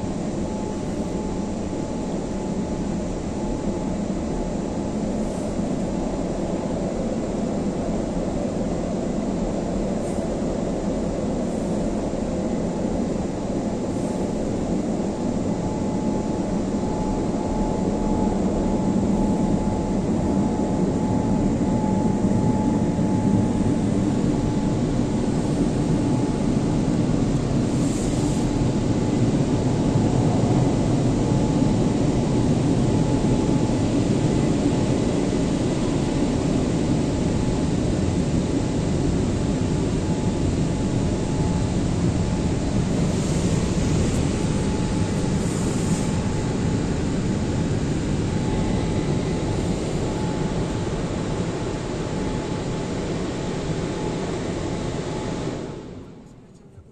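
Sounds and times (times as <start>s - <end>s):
faint steady whine: 0.0s - 56.9s.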